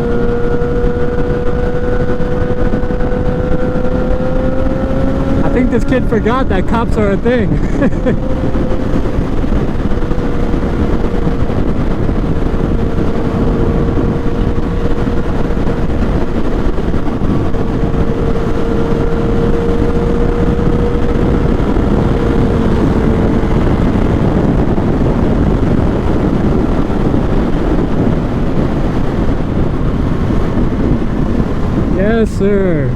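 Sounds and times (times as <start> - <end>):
motorcycle engine hum: 0.0 - 32.9
steady engine tone: 0.0 - 32.9
wind rush: 0.0 - 32.9.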